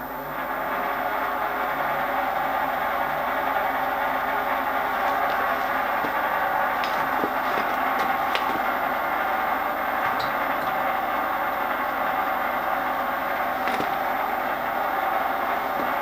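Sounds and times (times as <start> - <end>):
milling machine hum: 0.0 - 16.0.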